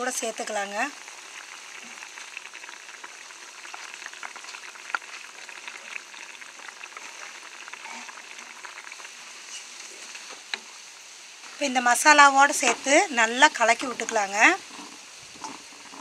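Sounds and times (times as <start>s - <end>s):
gravy bubbling and sizzling: 0.0s - 16.0s.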